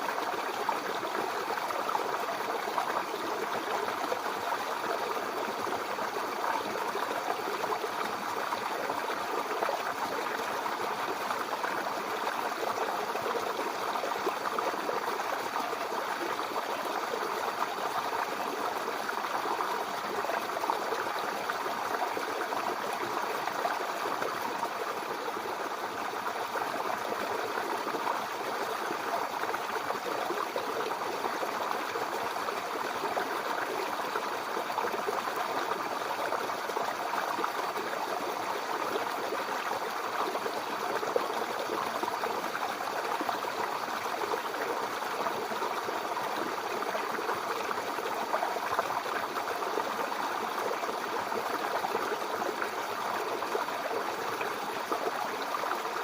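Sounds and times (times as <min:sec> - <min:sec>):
brook babbling over stones: 0:00.0 - 0:56.0.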